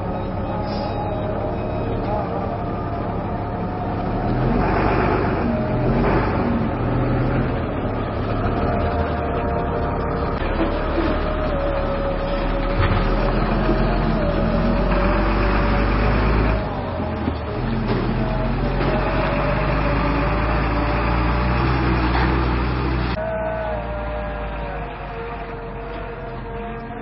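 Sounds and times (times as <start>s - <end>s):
truck engines running: 0.0s - 27.0s.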